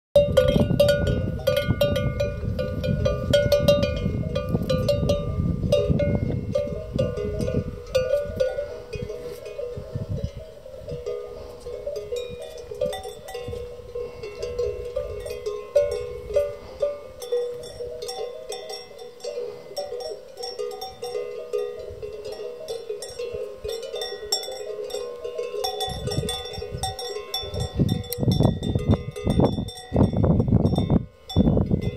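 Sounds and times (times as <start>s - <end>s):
cowbells clanging: 0.2s - 31.9s.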